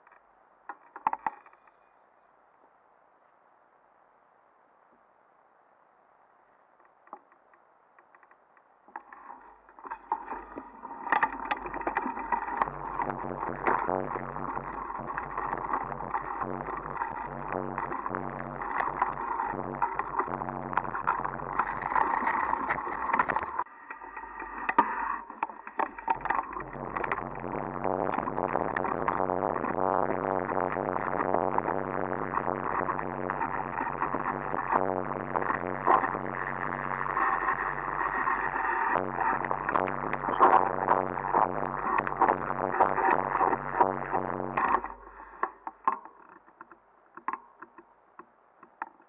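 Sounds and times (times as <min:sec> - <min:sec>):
crackling on stony ground: 0:00.0 - 0:02.7, 0:06.6 - 0:49.0.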